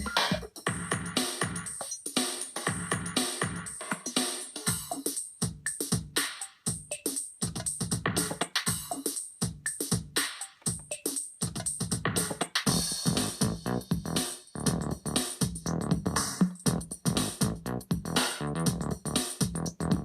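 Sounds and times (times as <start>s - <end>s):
drum machine hits: 0.0s - 20.0s.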